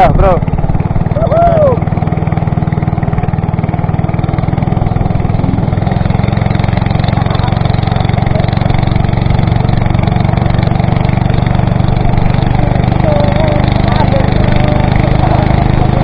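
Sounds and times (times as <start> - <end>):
small boat engine running: 0.0 - 16.0.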